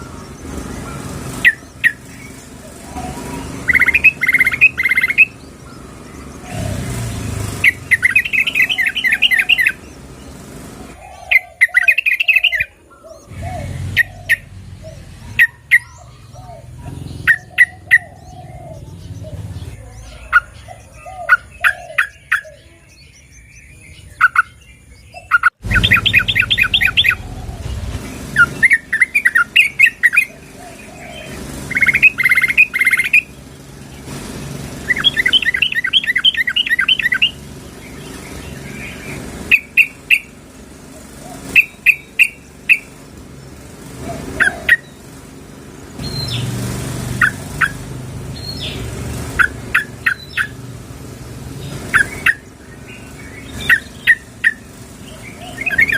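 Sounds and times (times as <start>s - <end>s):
bird bubbly chattering calls: 0.0s - 34.1s, 34.8s - 40.3s, 41.2s - 43.1s, 48.4s - 50.6s, 51.6s - 55.9s.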